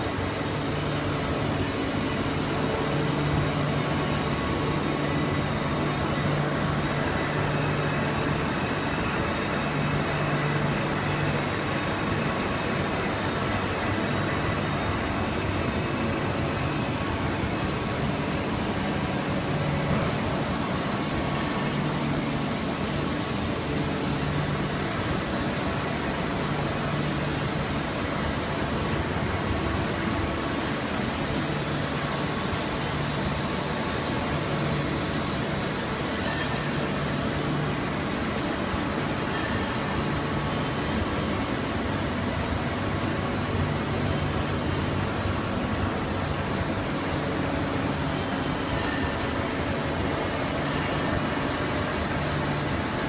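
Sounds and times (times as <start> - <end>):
machine shop hiss: 0.0 - 53.0.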